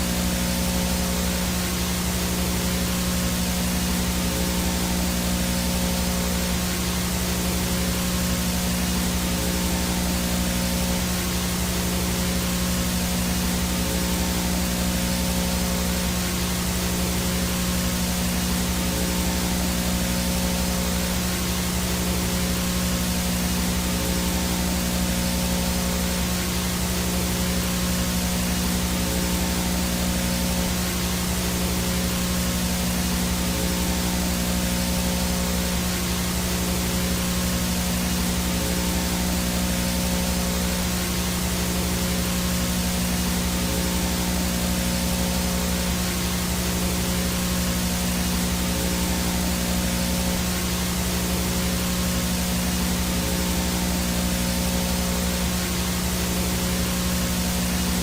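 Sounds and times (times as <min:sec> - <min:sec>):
low hum: 0:00.0 - 0:58.0
tape static hiss: 0:00.0 - 0:58.0.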